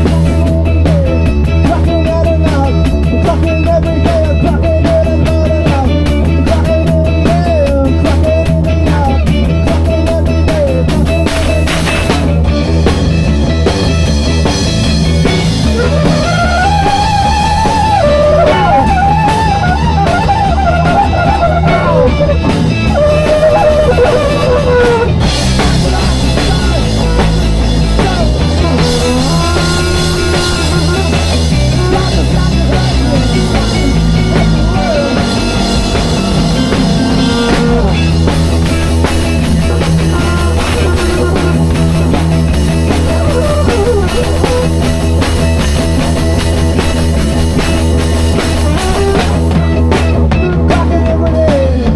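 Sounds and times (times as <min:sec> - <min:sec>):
bass line: 0:00.0 - 0:51.9
drum kit: 0:00.0 - 0:51.9
electric guitar bending lead line: 0:00.0 - 0:51.9.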